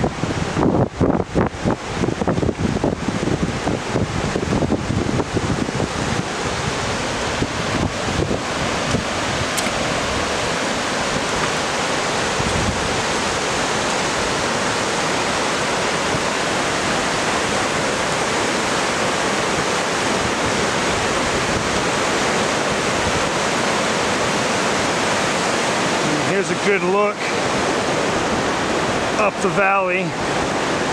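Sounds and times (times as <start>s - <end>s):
whitewater river roaring: 0.0s - 30.9s.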